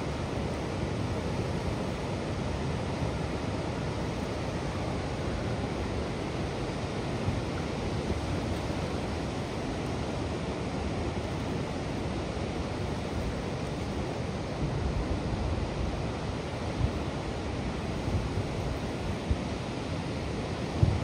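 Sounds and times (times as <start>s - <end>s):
rushing water over weir: 0.0s - 21.0s.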